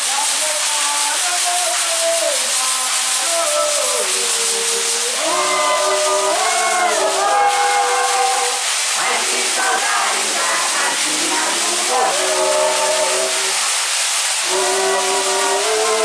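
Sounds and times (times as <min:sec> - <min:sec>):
shaken rattles hissing: 0:00.0 - 0:16.0
voices singing a chant: 0:00.0 - 0:16.0.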